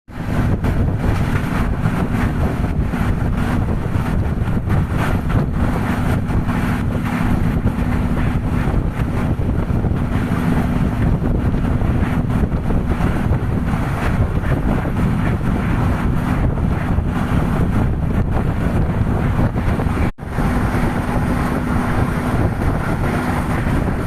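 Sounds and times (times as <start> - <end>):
train rumble: 0.1 - 24.0
wind buffeting microphone: 0.1 - 24.0.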